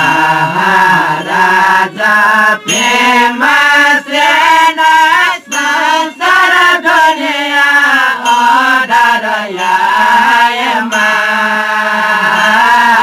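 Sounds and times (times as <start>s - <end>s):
group singing a devotional chant: 0.0s - 13.0s
harmonium: 0.0s - 13.0s.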